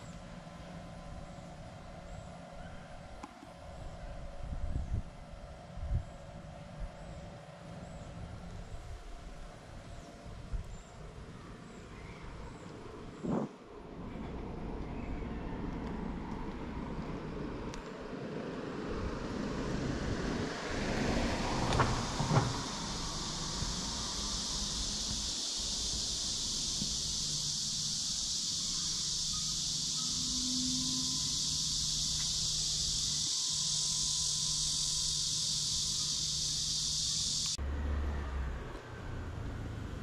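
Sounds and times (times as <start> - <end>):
cicadas buzzing: 0.0 - 40.0.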